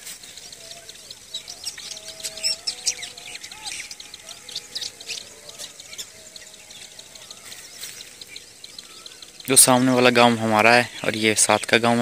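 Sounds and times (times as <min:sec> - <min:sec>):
faint steady tone: 0:00.0 - 0:12.0
small birds chirping: 0:00.0 - 0:12.0.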